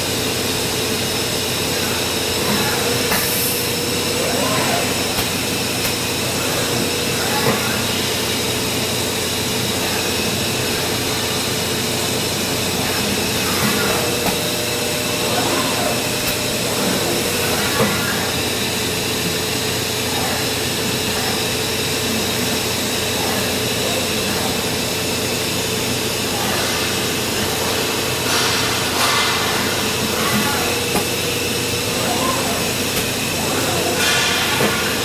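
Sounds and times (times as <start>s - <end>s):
machine hum and whine: 0.0s - 35.0s.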